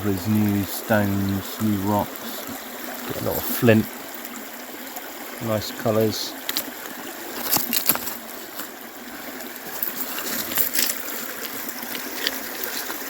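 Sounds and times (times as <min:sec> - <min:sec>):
river running over stones: 0:00.0 - 0:13.0.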